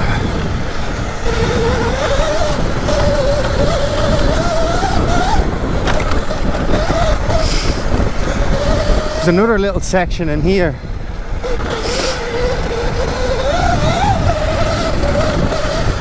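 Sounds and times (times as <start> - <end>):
electric motorbike motor whining: 0.0 - 16.0
wind on microphone: 0.0 - 16.0.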